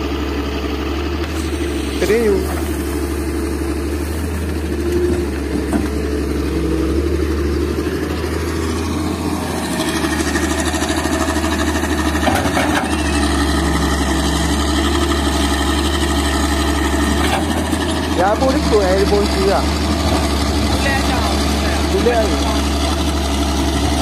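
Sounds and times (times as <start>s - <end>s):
low diesel engine drone: 0.0s - 24.0s.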